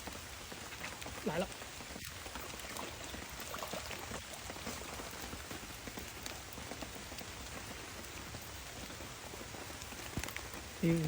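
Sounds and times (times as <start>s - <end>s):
rain falling with drop ticks: 0.0s - 11.0s.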